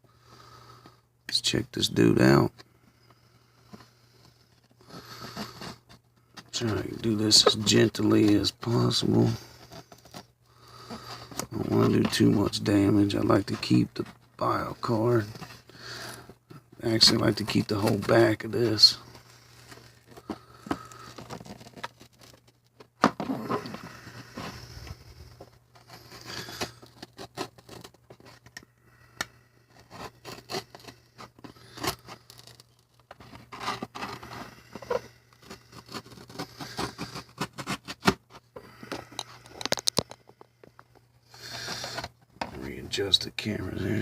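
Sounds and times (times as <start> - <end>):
knife scraping plastic: 3.6 - 42.7
crackling plastic: 3.7 - 42.7.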